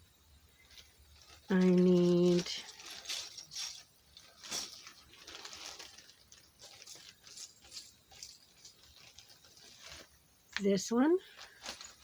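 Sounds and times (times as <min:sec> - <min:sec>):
plastic pieces clicking and rustling: 0:00.7 - 0:10.6.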